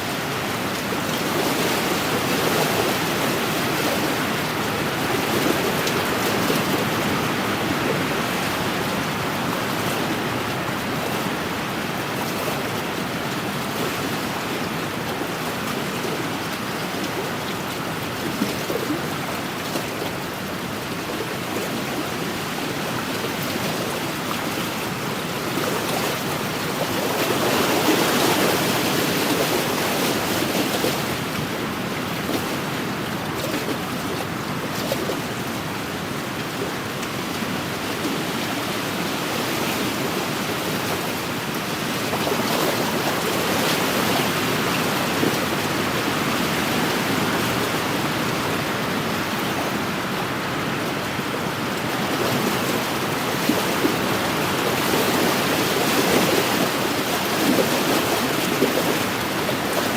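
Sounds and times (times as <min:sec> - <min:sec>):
waves washing against shore: 0:00.0 - 0:59.9.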